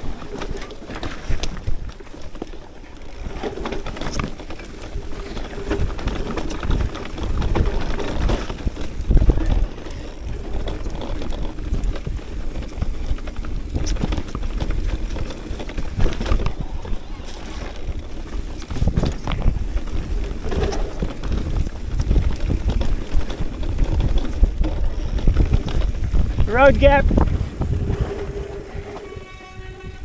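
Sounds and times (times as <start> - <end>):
bike rattling and knocking: 0.0 - 29.5
bike tyres on dirt and rock: 0.0 - 30.0.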